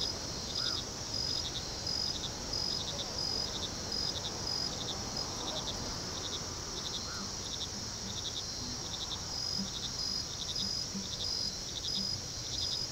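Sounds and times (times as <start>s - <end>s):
crickets chirping: 0.0s - 12.9s
high-pitched insect trill: 0.0s - 12.9s.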